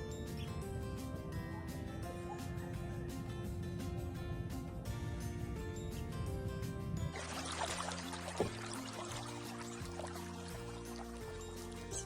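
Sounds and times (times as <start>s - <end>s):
background music with bass and chords: 0.0s - 12.0s.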